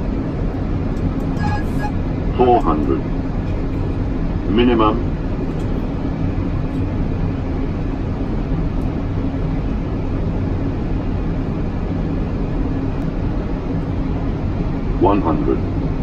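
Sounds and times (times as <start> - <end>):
airliner engines and airflow: 0.0 - 16.0
low hum: 0.0 - 16.0.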